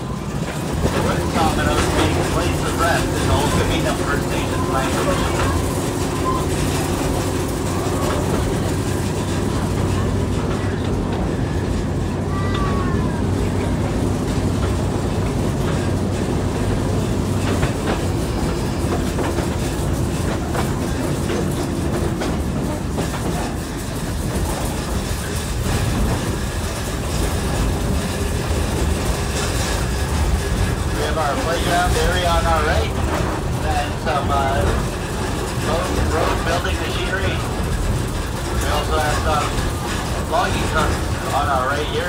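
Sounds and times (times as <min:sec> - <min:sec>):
locomotive drone: 0:00.0 - 0:42.0
wheels rattling over rail joints: 0:00.0 - 0:42.0.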